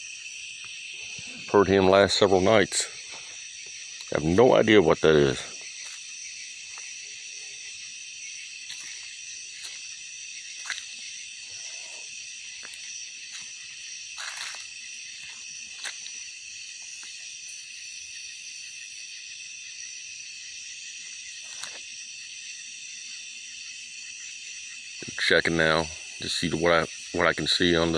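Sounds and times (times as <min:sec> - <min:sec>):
night insects trilling: 0:00.0 - 0:27.9.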